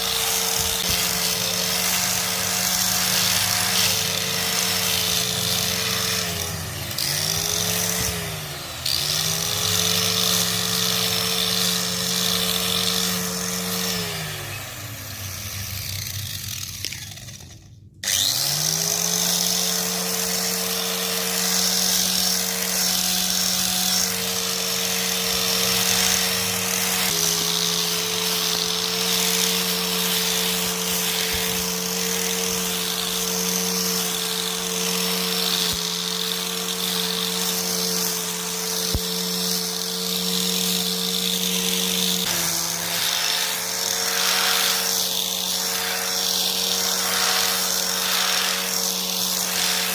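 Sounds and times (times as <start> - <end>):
grass cutter motor humming: 0.0 - 49.9.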